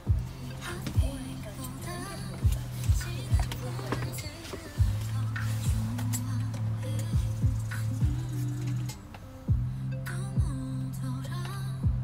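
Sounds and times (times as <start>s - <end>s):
music with kick-drum beat: 0.0s - 12.0s.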